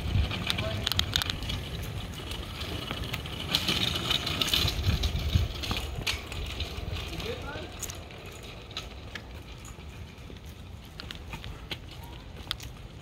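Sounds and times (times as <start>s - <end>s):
small wheels rolling on asphalt: 0.0s - 13.0s
light clicks and rattles: 0.2s - 12.9s.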